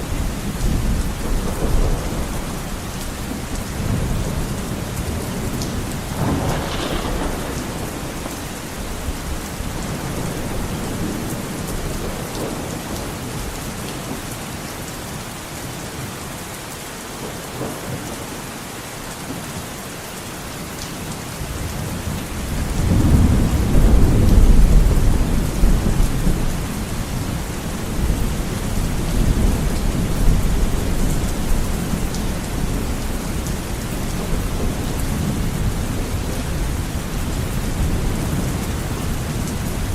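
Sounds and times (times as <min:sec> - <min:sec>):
thunder rumbling: 0:00.0 - 0:14.2, 0:21.6 - 0:39.9
heavy rain on a window: 0:00.0 - 0:39.9.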